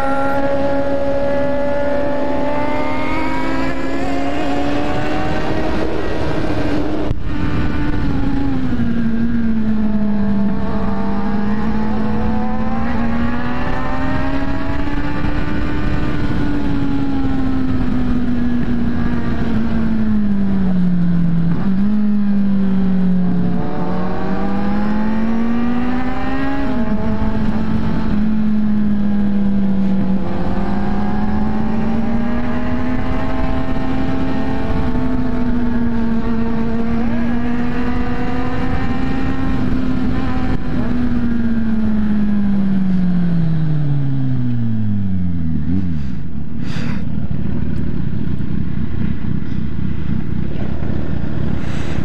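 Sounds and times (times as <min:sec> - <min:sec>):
motorcycle engine: 0:00.0 - 0:52.0
wind rumble on microphone: 0:00.0 - 0:52.0.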